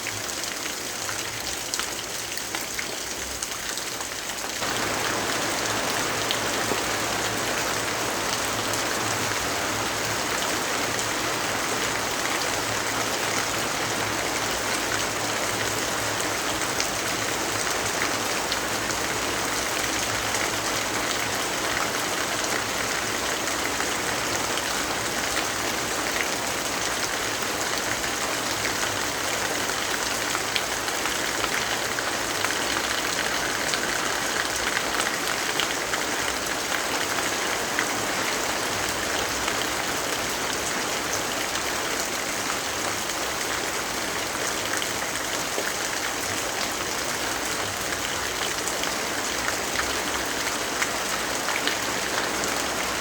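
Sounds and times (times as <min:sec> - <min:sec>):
steady rainfall: 0:00.0 - 0:53.0.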